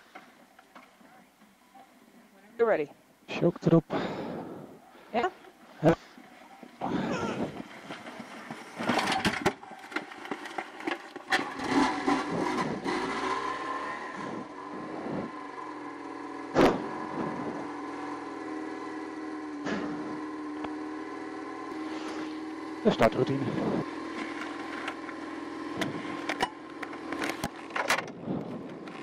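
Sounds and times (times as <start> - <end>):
motorcycle engine starting and running: 3.3 - 29.0.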